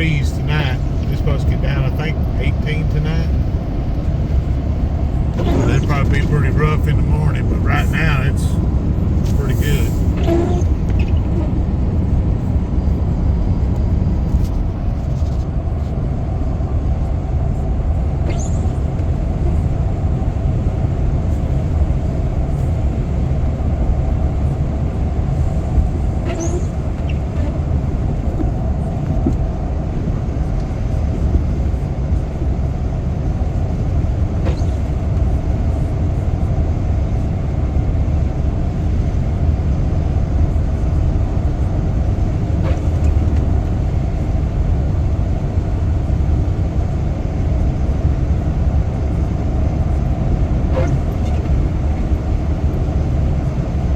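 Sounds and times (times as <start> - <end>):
vehicle driving on wet road: 0.0 - 53.9.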